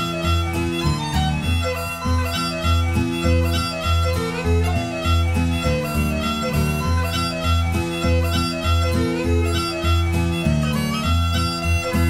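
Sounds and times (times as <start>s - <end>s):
lively background music: 0.0s - 12.0s.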